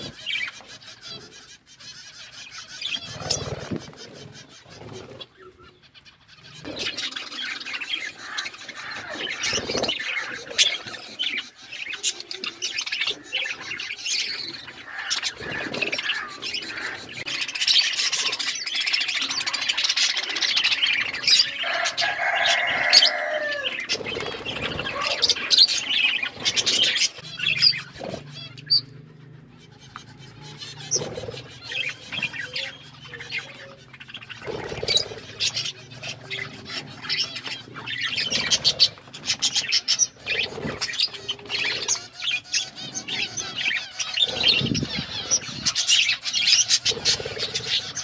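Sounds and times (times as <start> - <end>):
budgies chirping and chattering: 0.0 - 48.0.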